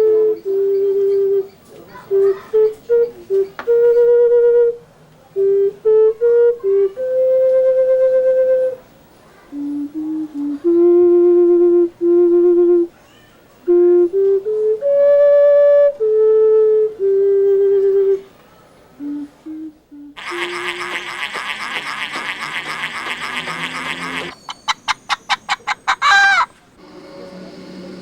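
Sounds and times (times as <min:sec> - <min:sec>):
ocarina melody: 0:00.0 - 0:04.8, 0:05.4 - 0:08.8, 0:09.5 - 0:12.9, 0:13.7 - 0:18.3, 0:19.0 - 0:25.5.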